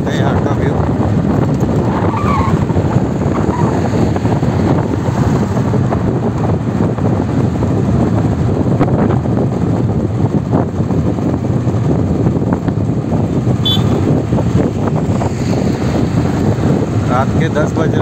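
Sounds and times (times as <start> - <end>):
passing road traffic: 0.0 - 18.0
wind rushing on microphone: 0.0 - 18.0.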